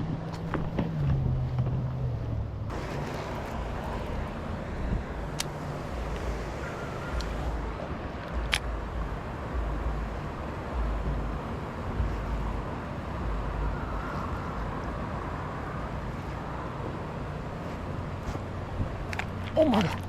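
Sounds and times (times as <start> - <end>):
wind rumbling on microphone: 0.0 - 20.0
outdoor hiss: 2.7 - 19.7.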